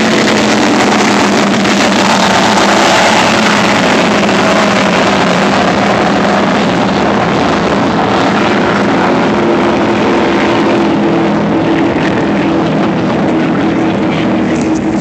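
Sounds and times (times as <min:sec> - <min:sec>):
higher engine tone: 0:00.0 - 0:15.0
motorboat engines running: 0:00.0 - 0:15.0
rushing wind and water: 0:00.0 - 0:15.0.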